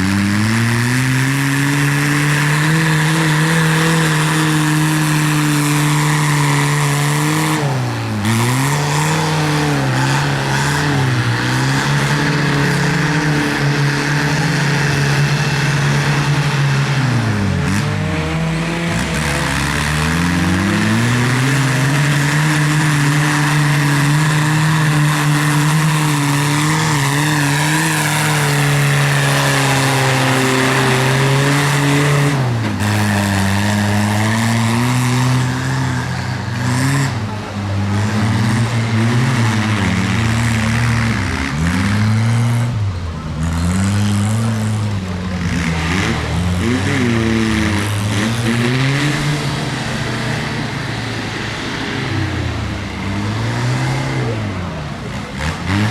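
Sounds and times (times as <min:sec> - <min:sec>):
tractor engine at high revs: 0:00.0 - 0:55.9.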